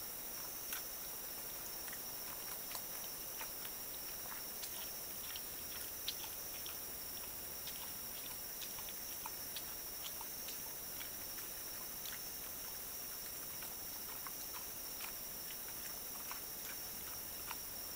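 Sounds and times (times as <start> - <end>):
hog chewing and crunching: 0.0 - 17.9
microphone hiss: 0.0 - 17.9.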